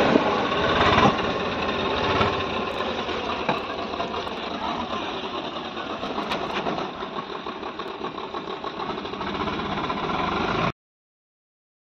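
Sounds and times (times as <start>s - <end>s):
tractor diesel engine under load: 0.0s - 10.8s.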